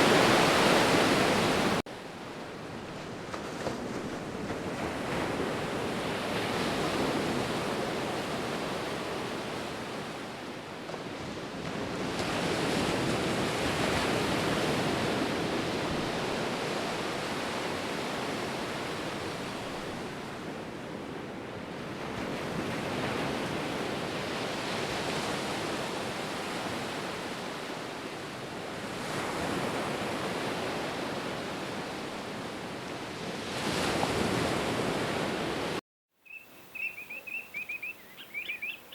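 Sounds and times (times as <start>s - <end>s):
sea waves breaking on shore: 0.0s - 35.8s.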